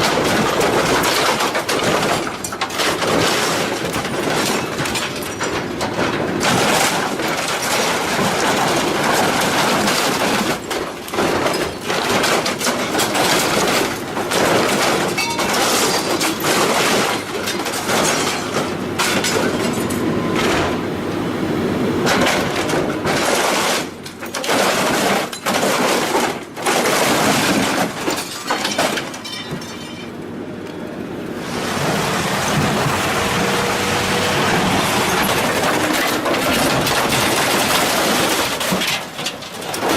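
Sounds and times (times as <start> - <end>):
metal cracking and breaking: 0.0 - 20.8, 22.0 - 30.2, 32.0 - 39.9
machinery crushing scrap metal: 0.0 - 39.9.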